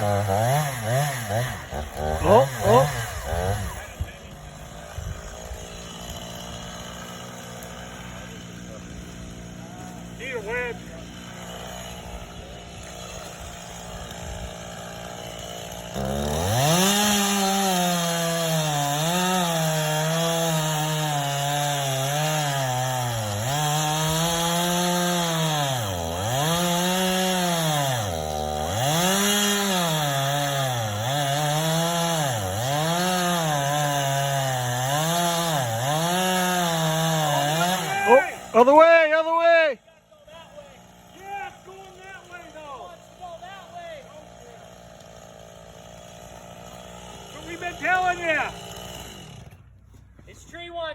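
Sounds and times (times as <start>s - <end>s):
chainsaw cutting wood: 0.0s - 50.8s.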